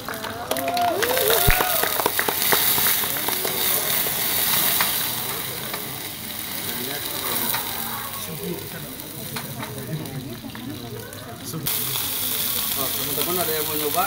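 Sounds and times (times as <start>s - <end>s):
hot oil sizzling in a frying pan: 0.7s - 14.0s.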